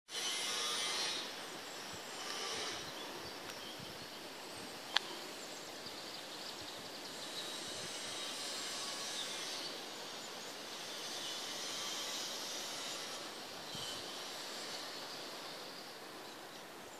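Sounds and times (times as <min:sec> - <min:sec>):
outdoor ambient hiss: 0:00.1 - 0:16.9.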